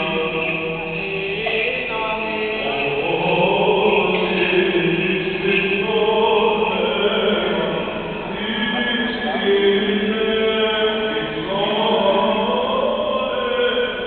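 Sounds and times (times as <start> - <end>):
voices chanting in a church: 0.0 - 14.0.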